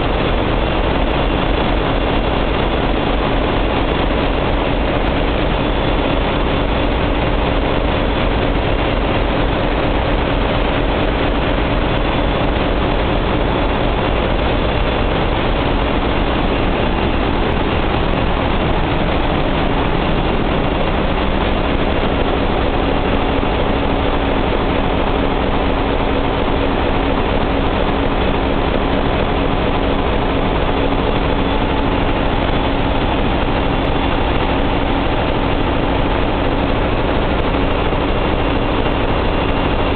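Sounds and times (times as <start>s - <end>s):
constant hum tone: 0.0s - 39.9s
diesel generator engines droning: 0.0s - 39.9s.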